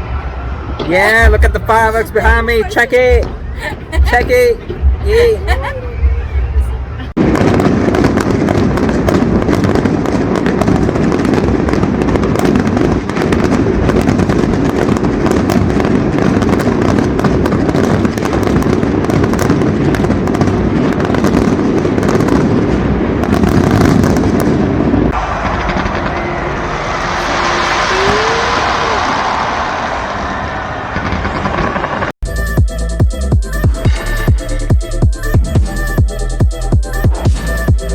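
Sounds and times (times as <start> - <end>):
fireworks barrage: 0.0 - 37.9.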